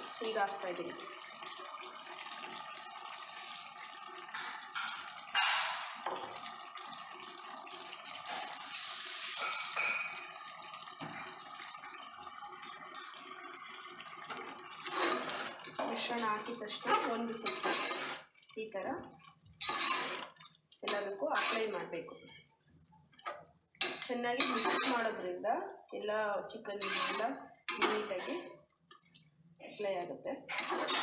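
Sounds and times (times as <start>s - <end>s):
curry bubbling in a pot: 0.0s - 29.6s, 30.4s - 31.0s.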